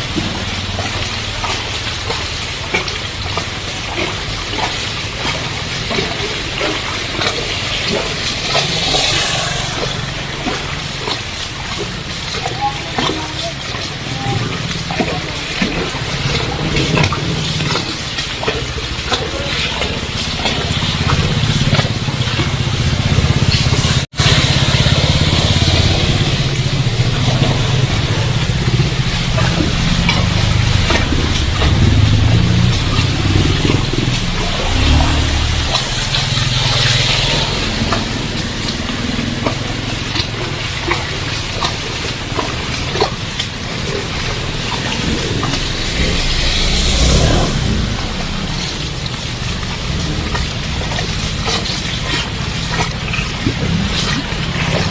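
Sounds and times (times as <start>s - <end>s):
close raindrops striking: 0.0s - 54.9s
drips and splashes: 0.0s - 54.9s
heavy rain falling: 0.0s - 54.9s
vehicle engine running: 0.0s - 54.9s.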